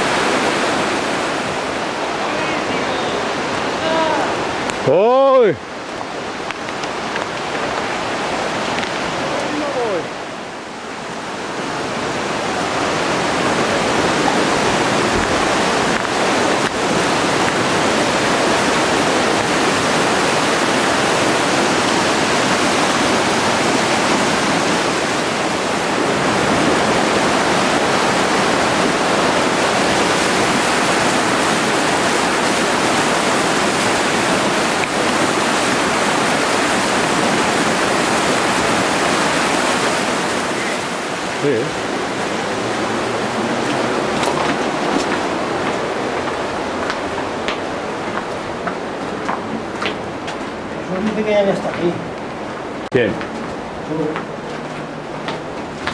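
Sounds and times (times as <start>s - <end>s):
river rushing over rapids: 0.0s - 55.9s.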